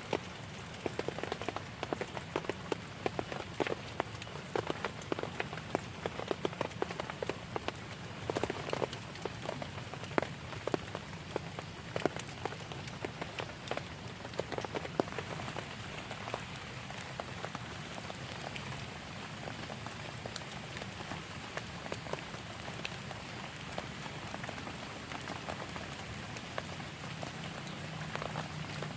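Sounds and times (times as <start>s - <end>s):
close raindrops tapping: 0.0s - 28.9s
heavy rain falling: 0.0s - 28.9s.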